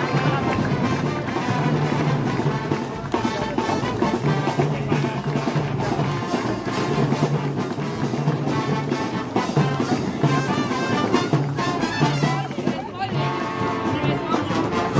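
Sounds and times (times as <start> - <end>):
brass band playing: 0.0 - 14.9
drums and cymbals: 0.0 - 14.9.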